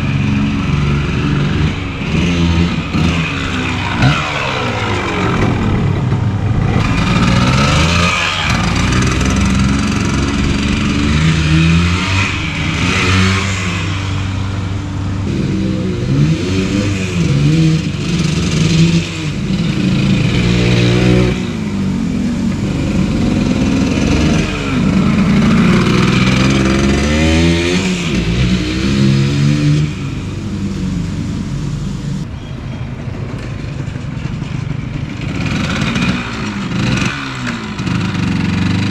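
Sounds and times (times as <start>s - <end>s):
motorcycle engine revving: 0.0s - 32.3s, 33.6s - 38.9s.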